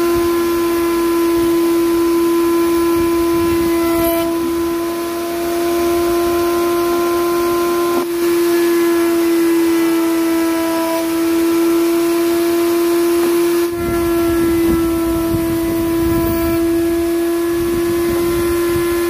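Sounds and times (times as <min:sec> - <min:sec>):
wood router whining: 0:00.0 - 0:19.0.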